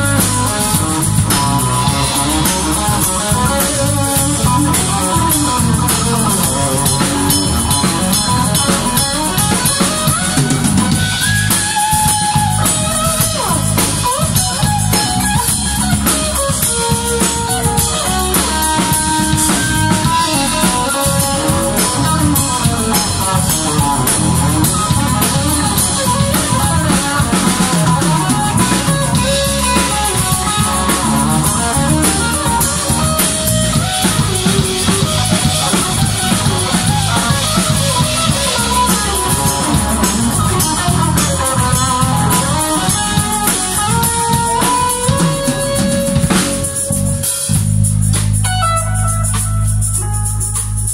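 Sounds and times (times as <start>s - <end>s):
live band playing instrumental: 0.0s - 50.9s.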